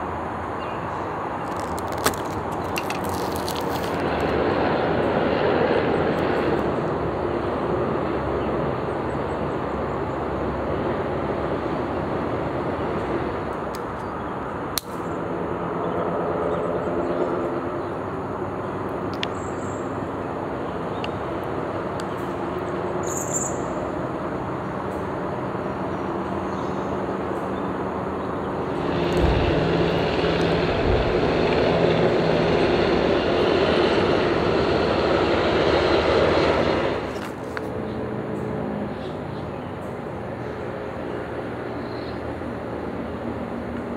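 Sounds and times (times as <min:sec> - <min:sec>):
distant engine drone: 0:00.0 - 0:43.9
outdoor background noise: 0:00.0 - 0:43.9.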